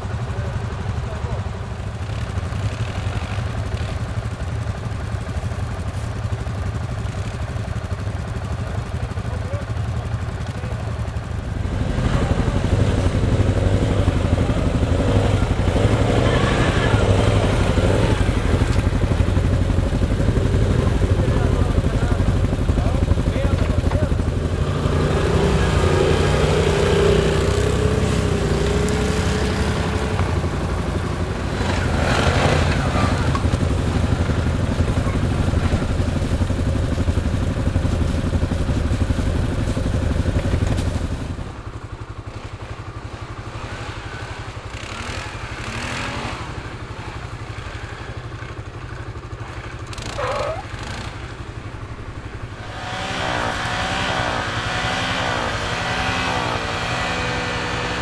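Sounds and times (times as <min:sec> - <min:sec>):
quad bike engines in snow: 0:00.0 - 0:58.0.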